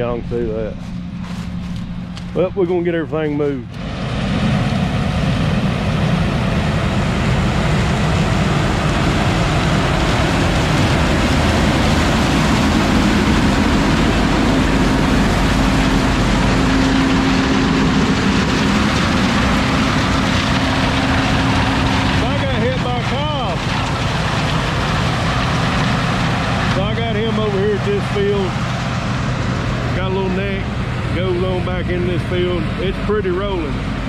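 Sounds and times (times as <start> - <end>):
farm vehicle engine rumbling: 0.0 - 34.0.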